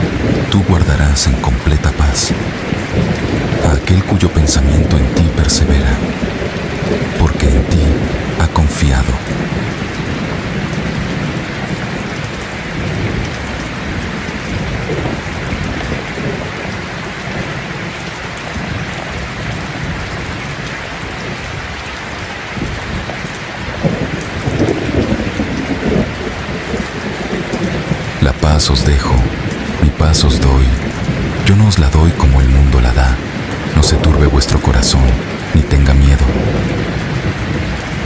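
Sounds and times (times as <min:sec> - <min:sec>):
low thunder rumbling: 0:00.0 - 0:21.6, 0:22.6 - 0:38.0
rain falling: 0:00.0 - 0:38.0.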